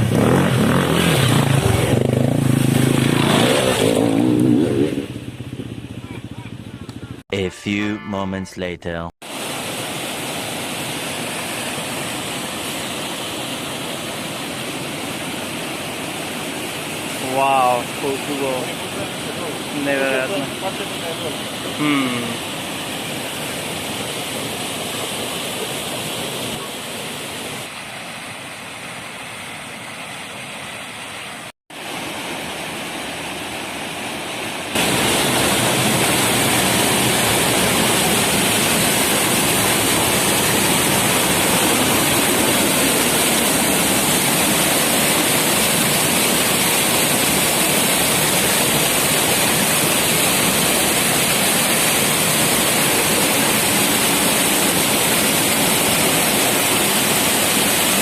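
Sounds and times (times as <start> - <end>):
waterfall roaring: 0.0 - 8.0, 8.6 - 58.0.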